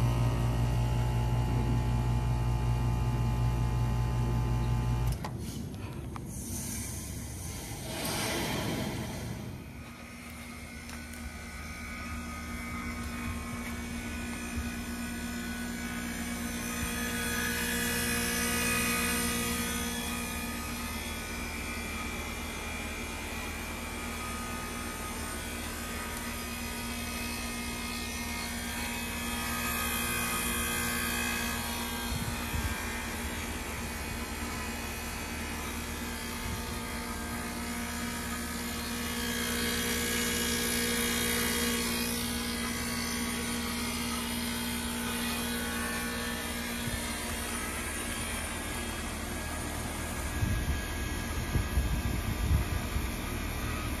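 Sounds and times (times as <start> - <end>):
compressor humming: 0.0 - 54.0.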